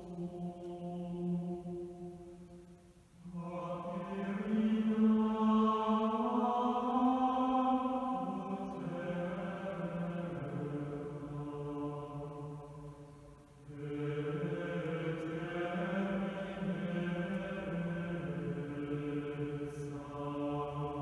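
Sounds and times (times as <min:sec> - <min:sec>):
slow chant singing: 0:00.0 - 0:21.0.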